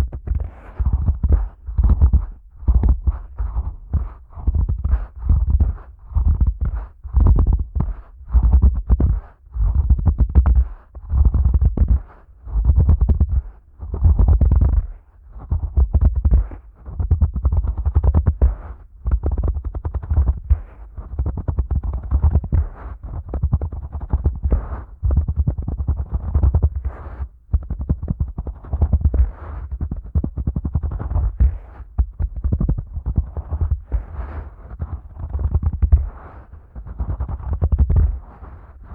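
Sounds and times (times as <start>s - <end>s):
fingers rubbing microphone: 0.0s - 38.9s.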